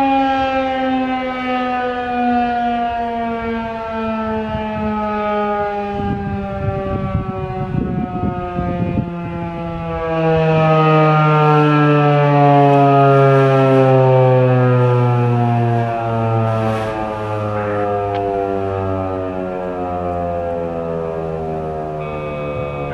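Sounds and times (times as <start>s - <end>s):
rotating siren winding down: 0.0s - 22.9s.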